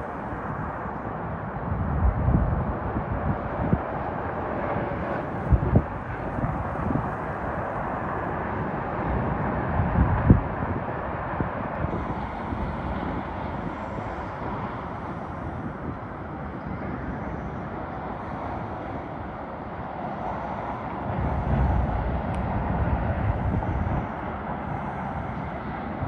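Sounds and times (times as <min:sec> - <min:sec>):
distant freight train rumble: 0:00.0 - 0:26.0.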